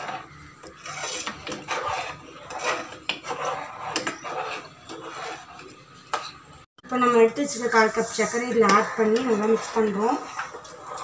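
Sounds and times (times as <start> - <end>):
spoon scraping metal pot: 0.0 - 11.0.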